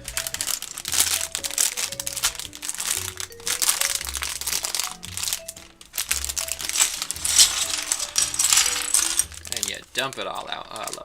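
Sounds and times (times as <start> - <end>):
background music: 0.0 - 11.0
plastic bags crinkling: 0.0 - 11.0.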